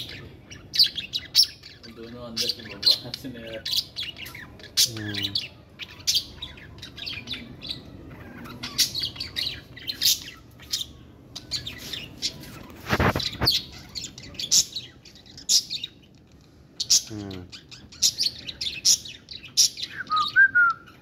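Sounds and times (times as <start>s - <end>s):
budgerigars chirping: 0.0s - 16.2s, 16.8s - 20.3s.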